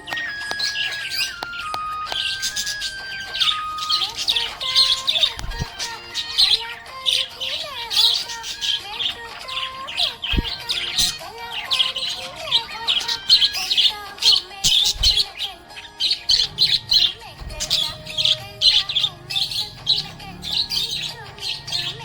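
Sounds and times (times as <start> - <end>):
budgerigar chirping and warbling: 0.0 - 22.0.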